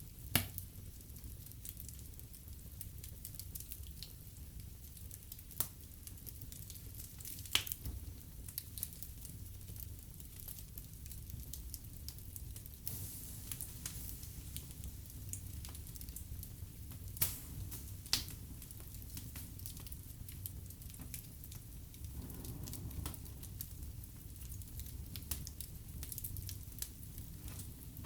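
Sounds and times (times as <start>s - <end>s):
fire crackling and popping: 0.0s - 28.0s
fire flames rumbling: 0.1s - 28.0s.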